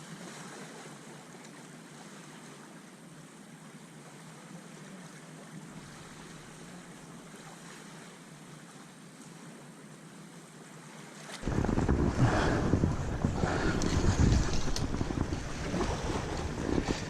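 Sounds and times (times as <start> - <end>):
water at sea's edge: 0.0 - 17.0
wind: 0.0 - 17.0.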